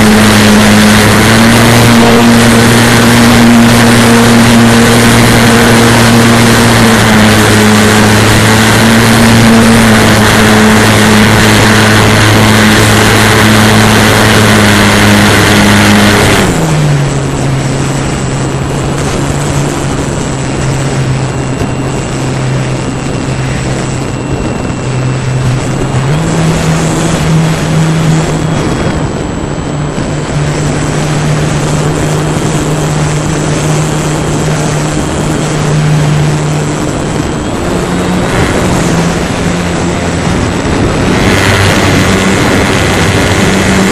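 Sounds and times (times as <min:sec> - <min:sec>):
model airplane motor and propeller: 0:00.0 - 0:43.9
wind rush: 0:00.0 - 0:43.9.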